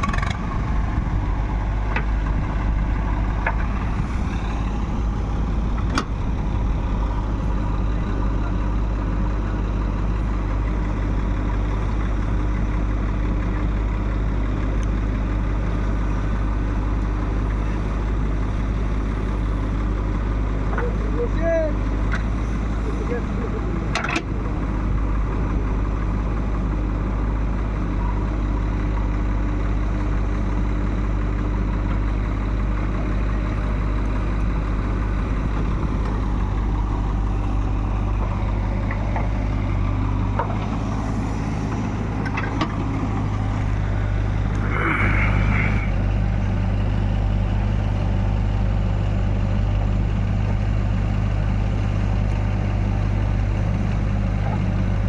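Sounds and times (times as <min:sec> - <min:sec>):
heavy diesel machinery droning: 0:00.0 - 0:55.0.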